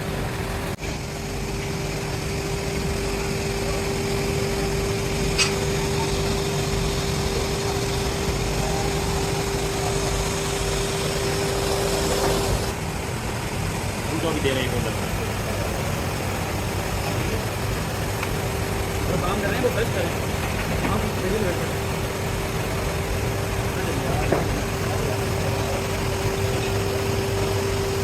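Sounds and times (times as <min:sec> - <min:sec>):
mid-pitched hum: 0:00.0 - 0:28.0
workshop machinery rumbling: 0:00.0 - 0:28.0.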